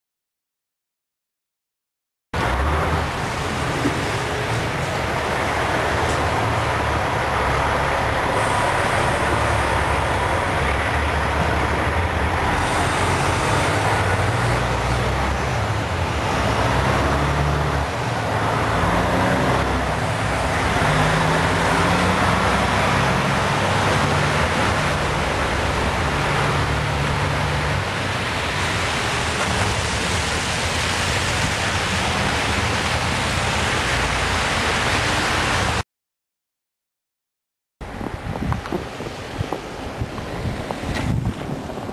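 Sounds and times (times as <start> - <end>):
blizzard noise: 2.4 - 35.8, 37.8 - 41.9
trucks passing: 2.4 - 35.8, 37.8 - 41.9.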